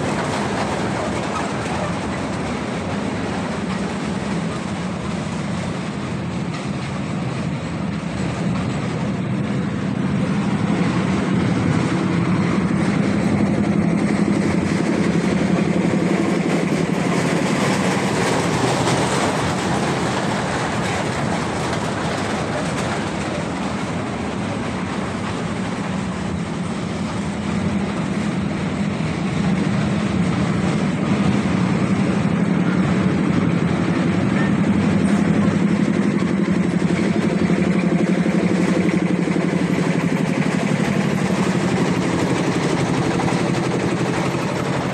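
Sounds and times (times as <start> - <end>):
ride train running on track: 0.0 - 44.9.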